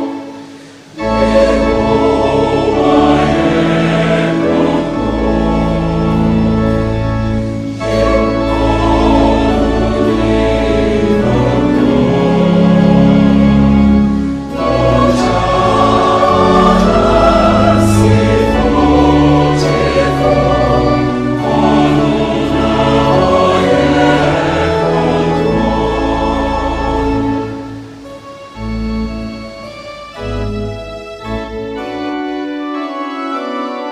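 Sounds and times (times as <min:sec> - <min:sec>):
choir singing gospel: 0:00.0 - 0:33.9
instrumental accompaniment: 0:00.0 - 0:33.9.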